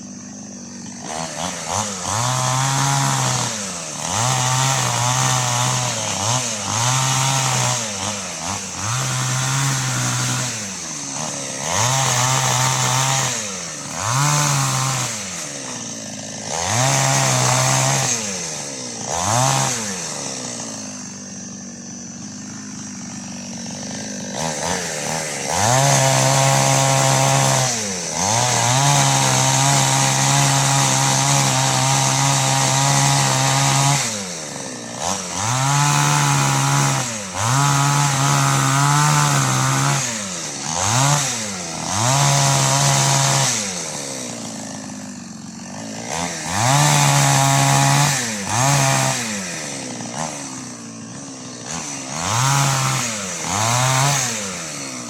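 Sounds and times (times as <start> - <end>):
chainsaw revving and idling: 0.0 - 55.0.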